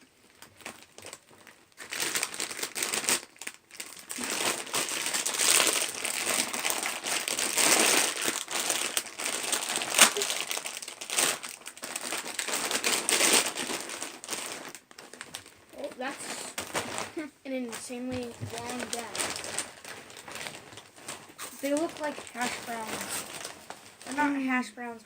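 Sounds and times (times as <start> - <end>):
sharp plastic crackle: 0.0 - 24.6
plastic snack bag crinkling: 0.0 - 25.0.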